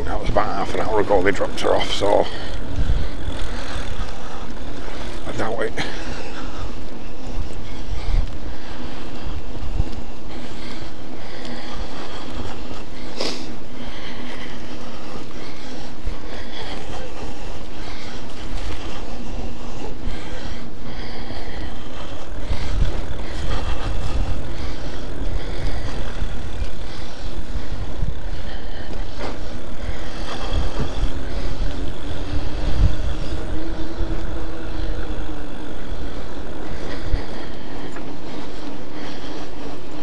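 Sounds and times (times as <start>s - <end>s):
electric bike motor whining: 0.0s - 40.0s
tyres rumbling on rough tarmac: 0.0s - 40.0s
wind buffeting microphone: 0.0s - 40.0s.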